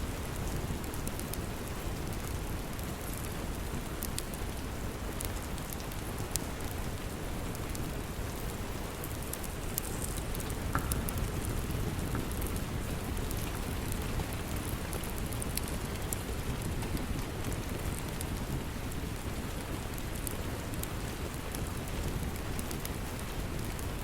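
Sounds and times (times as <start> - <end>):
steady rain: 0.0 - 24.0
wood fire crackling: 0.0 - 24.0.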